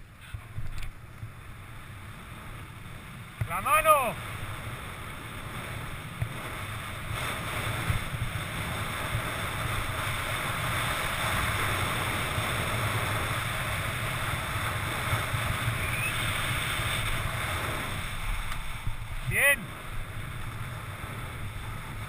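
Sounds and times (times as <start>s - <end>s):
skis scraping over snow: 0.0s - 22.0s
wind buffeting microphone: 0.2s - 22.0s.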